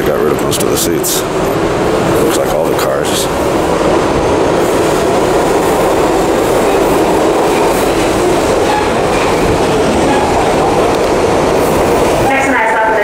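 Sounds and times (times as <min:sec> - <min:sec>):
subway train wheels rumbling on rails: 0:00.0 - 0:13.0.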